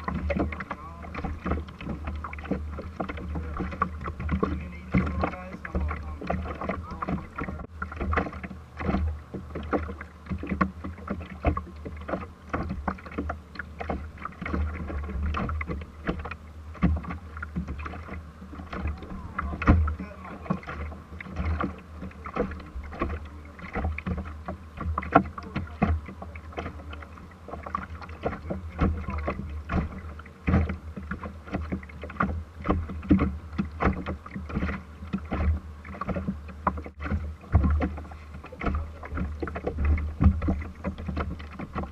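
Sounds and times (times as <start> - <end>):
waves slapping against boat hull: 0.0 - 41.9.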